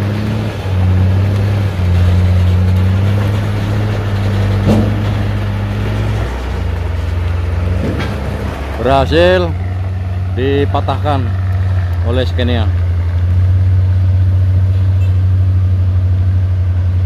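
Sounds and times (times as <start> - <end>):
truck diesel engine labouring: 0.0 - 17.0.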